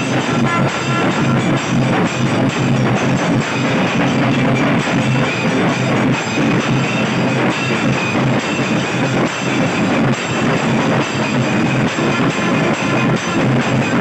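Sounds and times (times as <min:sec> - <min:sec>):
barrel drums beating fast: 0:00.0 - 0:14.0.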